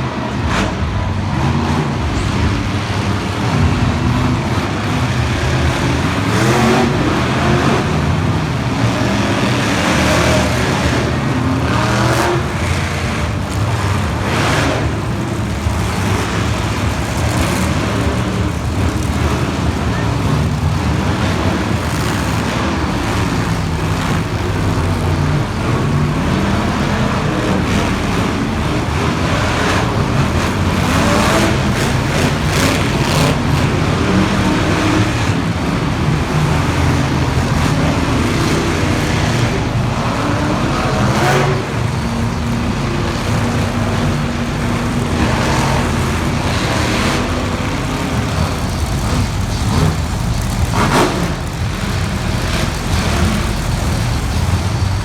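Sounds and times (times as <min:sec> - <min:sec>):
monster truck engines revving: 0:00.0 - 0:55.0.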